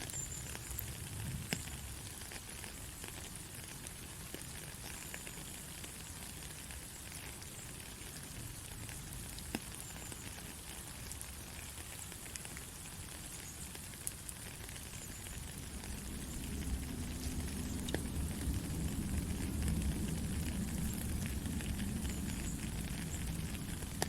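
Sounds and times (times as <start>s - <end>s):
soft rain hiss: 0.0s - 24.0s
single raindrops ticking: 0.1s - 24.0s.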